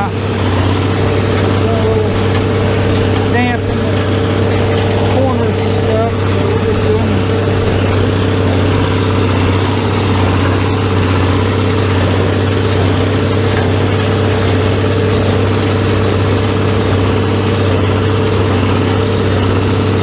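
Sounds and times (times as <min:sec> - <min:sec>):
high whine: 0:00.0 - 0:20.0
tractor engine running: 0:00.0 - 0:20.0.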